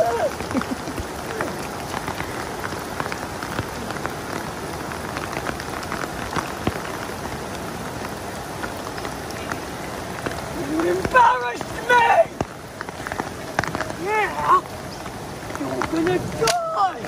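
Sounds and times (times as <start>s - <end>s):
rain on grass and puddles: 0.0s - 17.0s.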